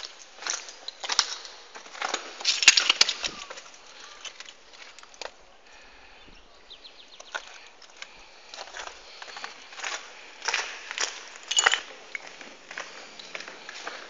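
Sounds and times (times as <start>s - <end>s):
footsteps crunching on debris: 0.0s - 5.4s, 7.2s - 14.0s.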